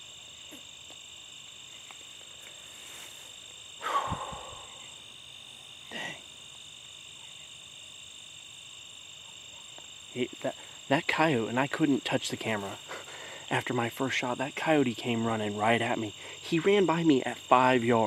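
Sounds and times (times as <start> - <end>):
crickets and insects chirping: 0.0 - 18.0.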